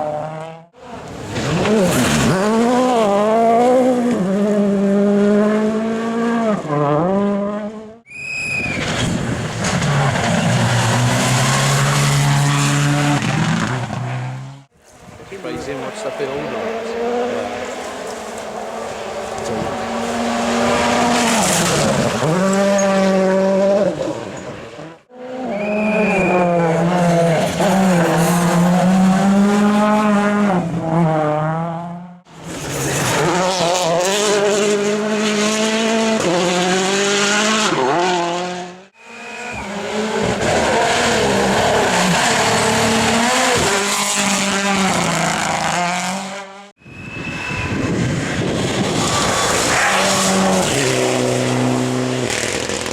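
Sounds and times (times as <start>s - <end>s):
rally car engines revving: 0.0s - 8.0s, 8.8s - 52.9s.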